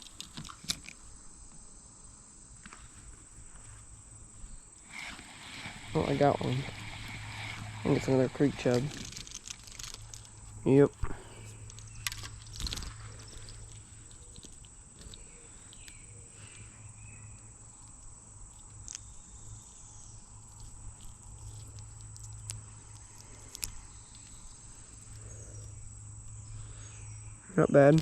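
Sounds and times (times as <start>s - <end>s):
insect drone: 0.0s - 28.0s
low steady hum: 0.0s - 28.0s.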